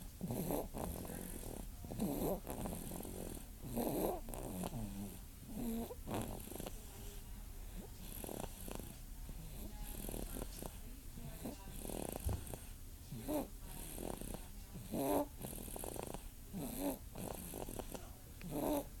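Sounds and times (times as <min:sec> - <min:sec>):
baby snorting: 0:00.0 - 0:06.8, 0:07.8 - 0:19.0.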